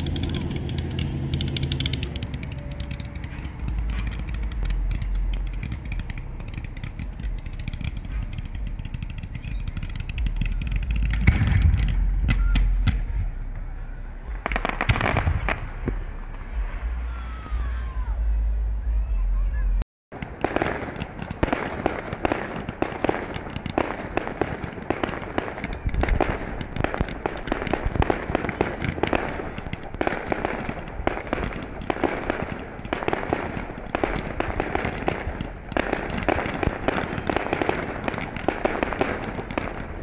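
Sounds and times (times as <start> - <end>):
fireworks pops and crackles: 0.0 - 13.7, 14.3 - 16.7, 20.1 - 40.0
heavy firework bang: 2.3 - 18.0, 20.1 - 40.0.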